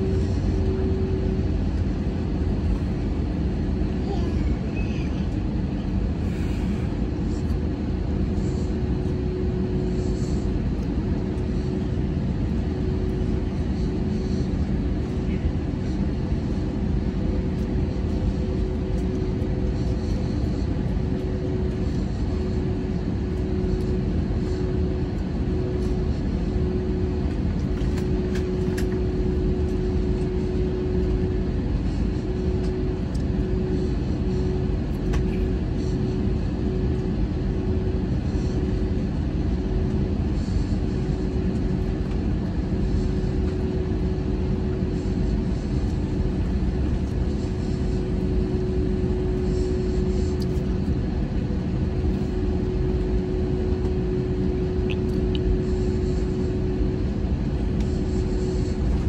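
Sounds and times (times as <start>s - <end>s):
constant engine whine: 0.0s - 59.0s
jet engine rumble: 0.0s - 59.0s.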